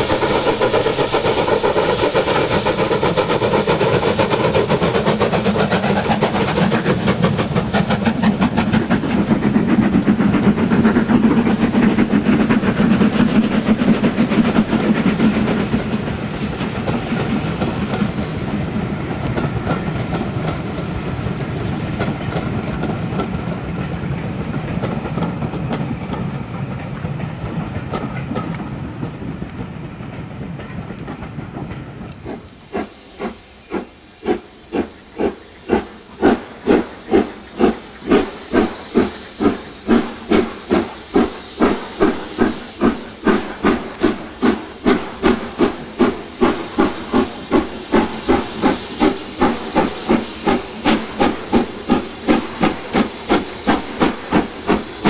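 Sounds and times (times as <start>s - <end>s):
steam locomotive exhaust beats: 0.0s - 55.0s
train wheels clicking over rail joints: 0.0s - 55.0s.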